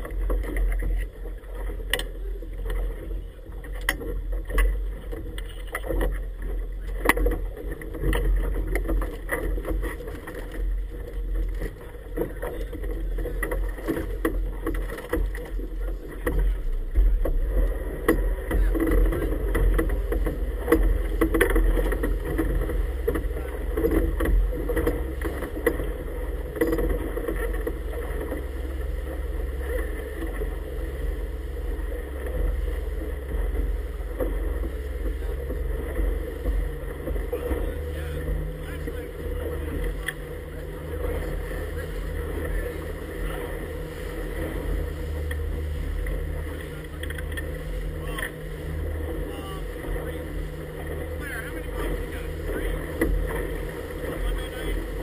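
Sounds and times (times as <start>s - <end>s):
boat motor rumble: 0.0s - 55.0s
hull slapping on waves: 0.0s - 55.0s.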